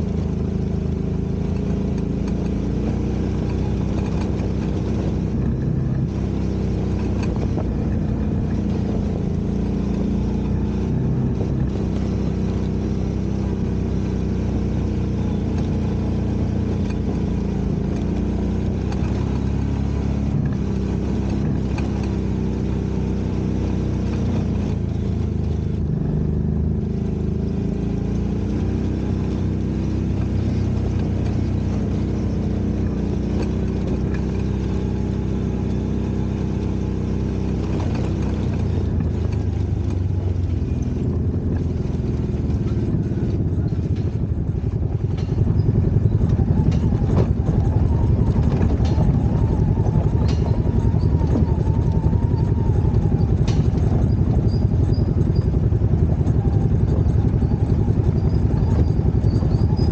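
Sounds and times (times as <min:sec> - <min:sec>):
vehicle engine driving: 0:00.0 - 0:59.9.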